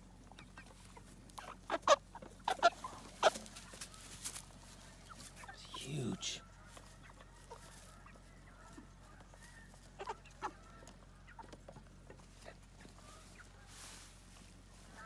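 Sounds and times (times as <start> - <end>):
chickens calling softly: 0.0 - 15.0.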